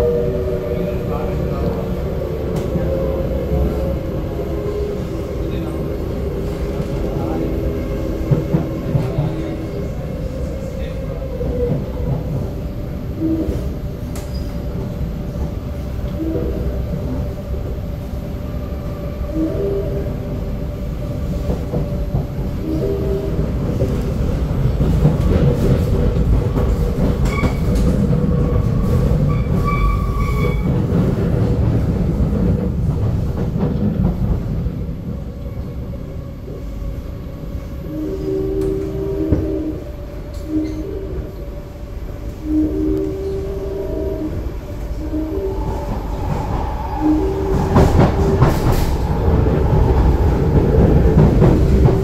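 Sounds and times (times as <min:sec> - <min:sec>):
train wheels rumbling on track: 0:00.0 - 0:52.0.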